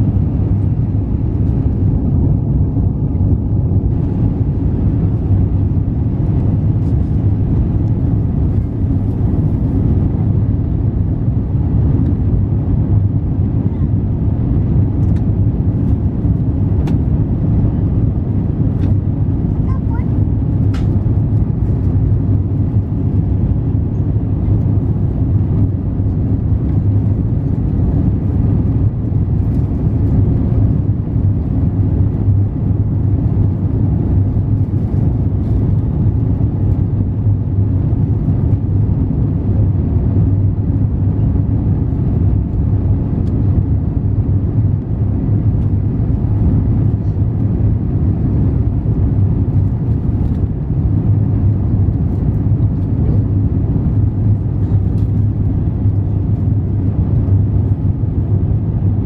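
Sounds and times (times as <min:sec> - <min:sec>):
jet engine rumble in cabin: 0:00.0 - 0:59.0.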